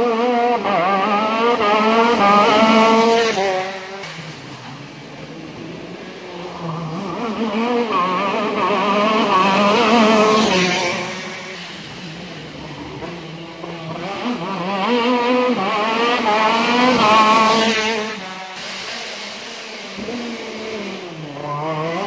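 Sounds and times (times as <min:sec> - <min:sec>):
kart engine revving: 0:00.0 - 0:22.0.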